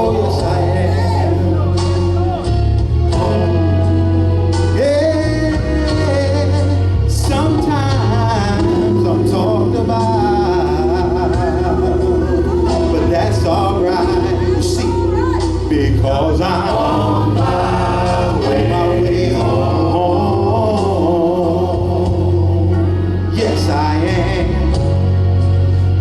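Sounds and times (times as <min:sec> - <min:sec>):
gospel singing with vibrato: 0:00.0 - 0:26.0.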